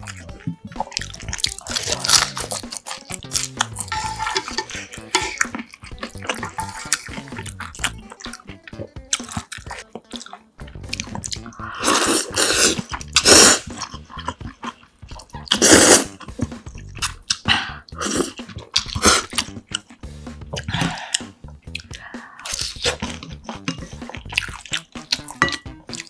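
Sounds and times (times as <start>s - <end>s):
chopsticks stirring noodles in pot: 0.0s - 17.4s, 22.5s - 26.0s
slurping noodles: 0.0s - 26.0s.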